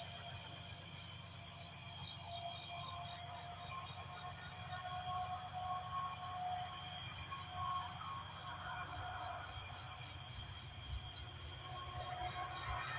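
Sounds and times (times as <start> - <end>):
crickets chirring: 0.0 - 12.9.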